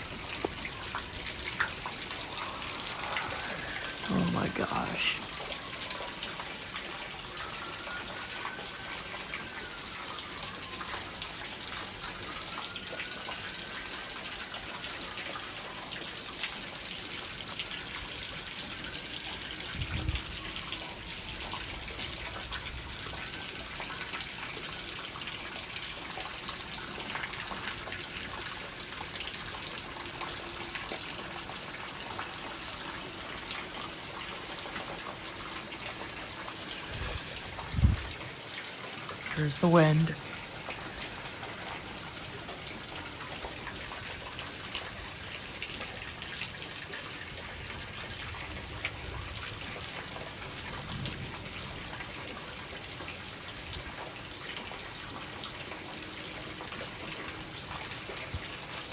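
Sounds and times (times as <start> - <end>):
heavy rain pouring: 0.0 - 58.9
wind: 0.0 - 58.9.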